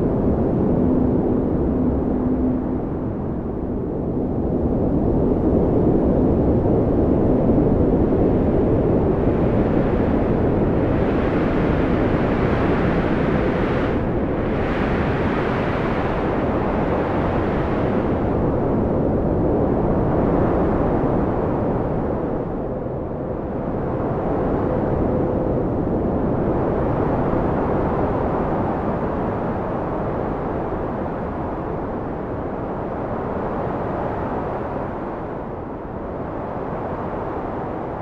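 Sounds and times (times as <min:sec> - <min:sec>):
strong wind blowing: 0:00.0 - 0:38.0.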